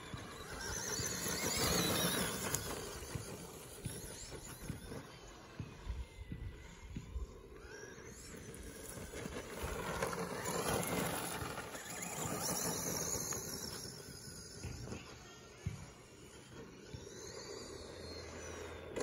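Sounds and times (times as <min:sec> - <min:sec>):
electric toy truck motor whine: 0:00.0 - 0:05.5, 0:06.6 - 0:19.0
tyres on grass: 0:00.0 - 0:17.2.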